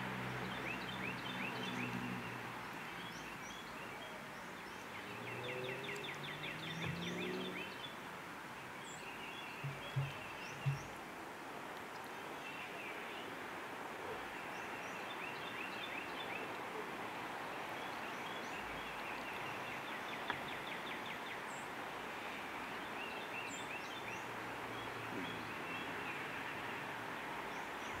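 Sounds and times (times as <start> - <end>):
wild birds chirping: 0.0 - 28.0.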